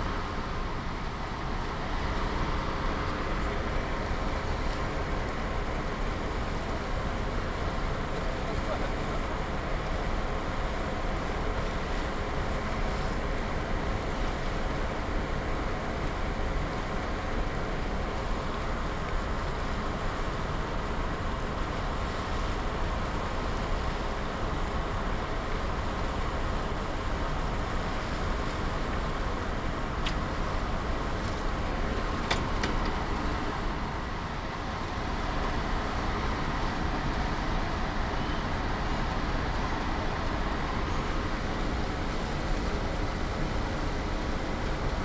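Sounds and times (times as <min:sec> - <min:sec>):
ferry engine hum: 0:00.0 - 0:45.0
water rushing along hull: 0:00.0 - 0:45.0.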